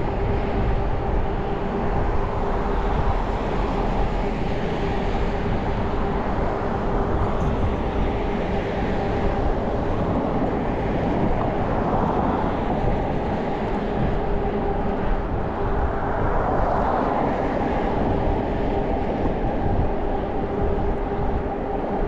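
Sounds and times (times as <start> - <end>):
constant hum: 0.0 - 22.0
train rumbling: 0.0 - 22.0.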